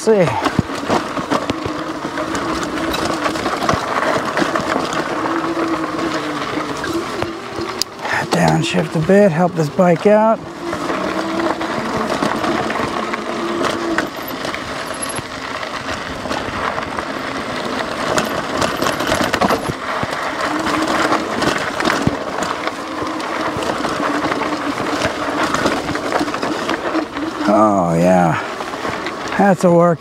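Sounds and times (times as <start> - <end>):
electric bike motor whining: 0.0 - 30.0
tyres crunching on rocky ground: 0.0 - 30.0.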